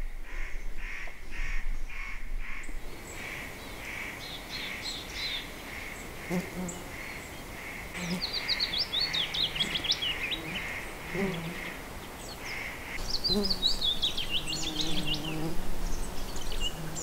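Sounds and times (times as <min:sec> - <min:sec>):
light steady hiss: 0:02.6 - 0:17.0.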